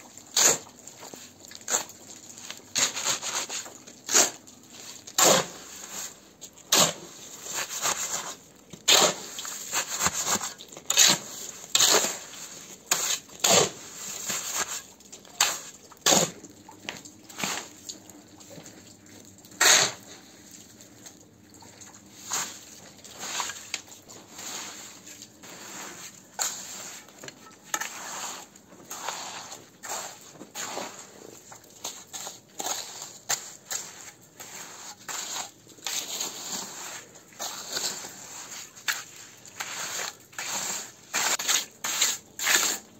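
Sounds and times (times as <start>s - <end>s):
wet concrete squelching: 0.0s - 42.9s
shovel scraping concrete: 0.3s - 16.4s, 17.3s - 17.8s, 19.5s - 20.3s, 22.2s - 31.2s, 31.8s - 42.9s.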